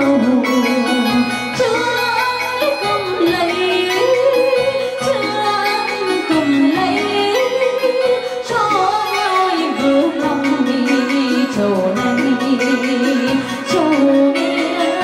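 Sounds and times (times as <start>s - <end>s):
instrumental accompaniment: 0.0s - 15.0s
person singing: 0.0s - 15.0s.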